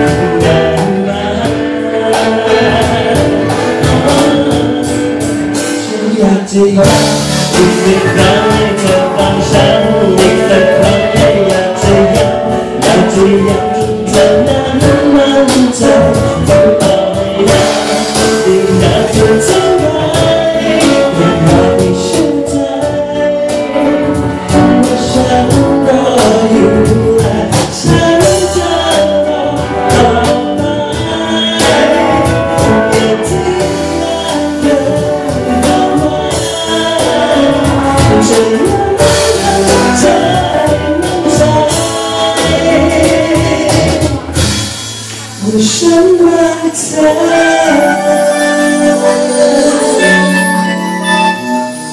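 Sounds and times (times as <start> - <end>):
live band with acoustic guitar: 0.0 - 51.9
man singing pop song: 0.0 - 51.9.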